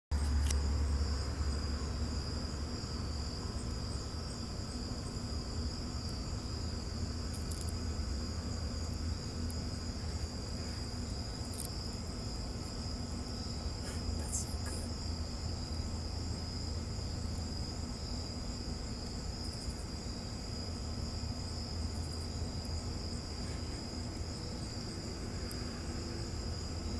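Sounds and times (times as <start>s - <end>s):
cricket trilling: 0.1s - 26.9s
low steady hum: 0.1s - 26.9s.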